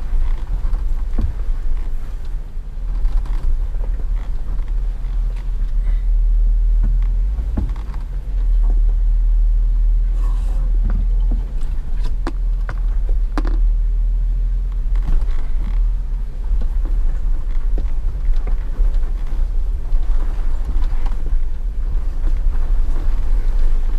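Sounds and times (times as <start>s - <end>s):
knocks and clunks over rocks: 0.0s - 6.1s, 6.8s - 9.1s, 10.7s - 13.8s, 14.7s - 23.9s
off-road vehicle rumbling: 0.0s - 23.9s.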